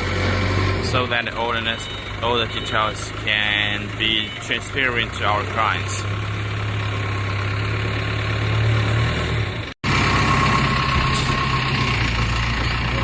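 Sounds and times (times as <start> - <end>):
vehicle engine idling: 0.0 - 8.8, 9.4 - 13.0.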